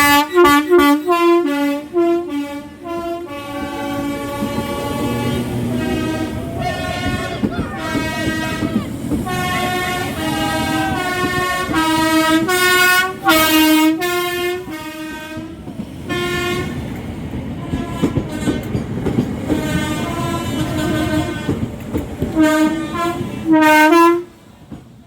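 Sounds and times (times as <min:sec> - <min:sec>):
train horn playing short notes: 0:00.0 - 0:16.8, 0:17.6 - 0:18.8, 0:19.5 - 0:21.7, 0:22.3 - 0:24.4
train rattling along track: 0:00.0 - 0:25.0.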